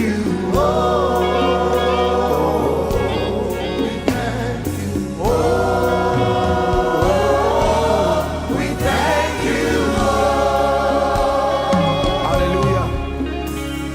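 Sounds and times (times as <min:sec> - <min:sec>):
bass line: 0:00.0 - 0:13.9
gospel choir singing: 0:00.0 - 0:13.9
percussion: 0:00.0 - 0:13.9.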